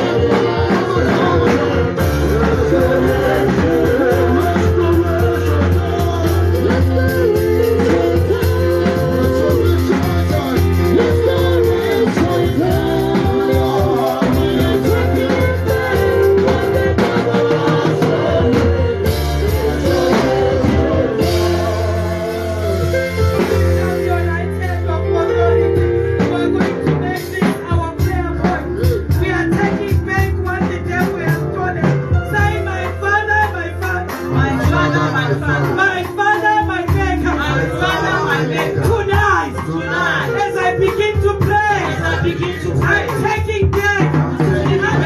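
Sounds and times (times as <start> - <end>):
band accompaniment with bass: 0.0 - 45.0
worship singing: 0.0 - 45.0.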